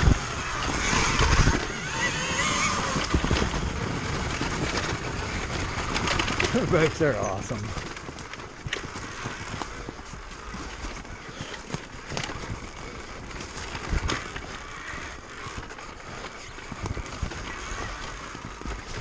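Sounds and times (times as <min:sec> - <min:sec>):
dirt bike wheels knocking: 0:00.0 - 0:19.0
tyres scrabbling on stone: 0:00.0 - 0:19.0.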